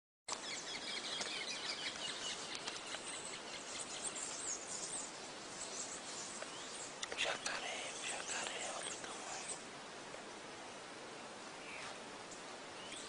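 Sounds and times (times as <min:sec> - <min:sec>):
birds chirping: 0:00.3 - 0:13.0
steady background hiss: 0:00.3 - 0:13.0.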